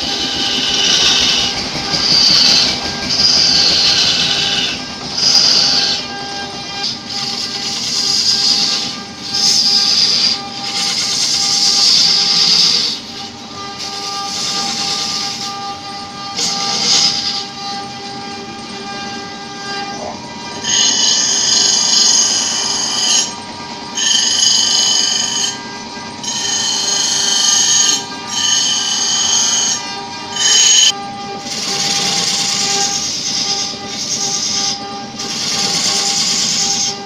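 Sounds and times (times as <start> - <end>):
bench grinder screeching on steel: 0.0 - 37.0
tool scraping spinning wood: 0.0 - 37.0
wood lathe motor hum: 0.0 - 37.0.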